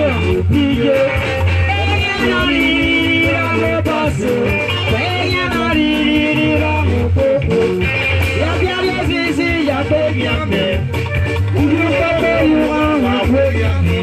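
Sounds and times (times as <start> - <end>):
electric guitar bending notes: 0.0 - 14.0
heavy bass: 0.0 - 14.0.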